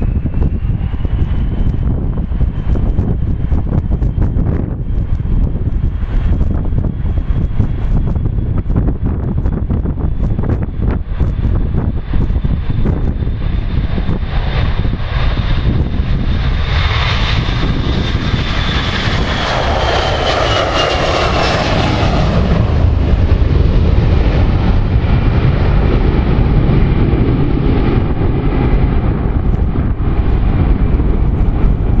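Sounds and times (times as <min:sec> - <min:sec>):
jet engines taking off: 0:00.0 - 0:32.0.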